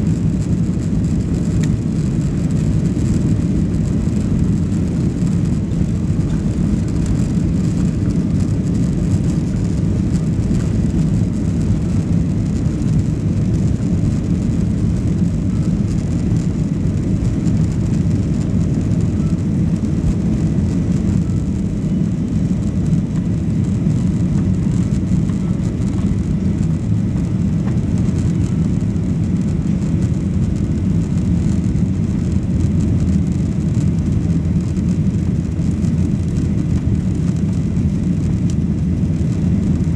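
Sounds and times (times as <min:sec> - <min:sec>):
jet airliner engines rumbling: 0:00.0 - 0:39.9.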